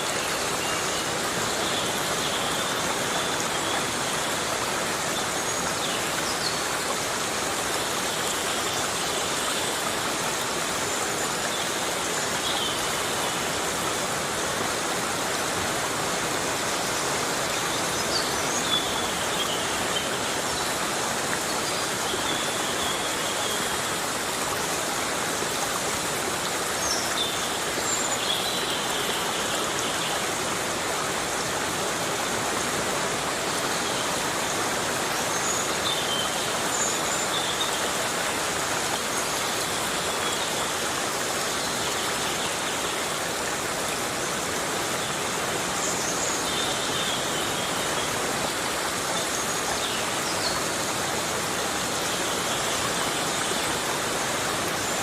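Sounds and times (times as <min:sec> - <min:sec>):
heavy rain on forest: 0:00.0 - 0:55.0.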